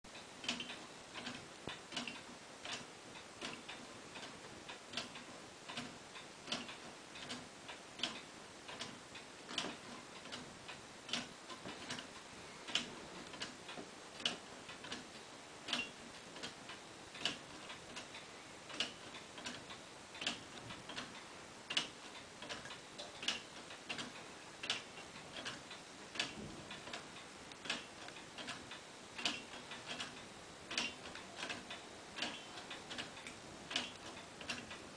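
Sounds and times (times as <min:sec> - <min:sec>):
clock ticking: 0:00.1 - 0:34.9.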